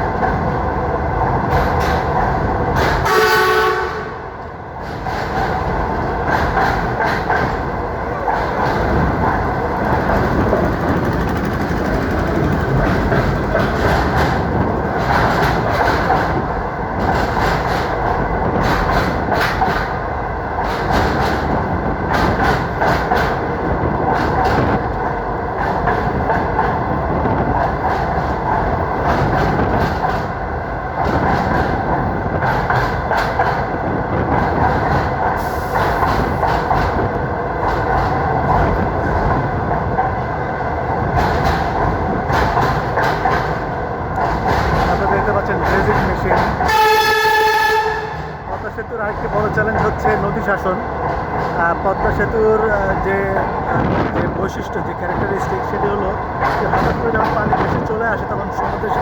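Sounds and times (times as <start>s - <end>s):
train wheels rumbling on track: 0.0s - 59.0s
train wheels clacking: 1.2s - 40.3s, 41.0s - 59.0s.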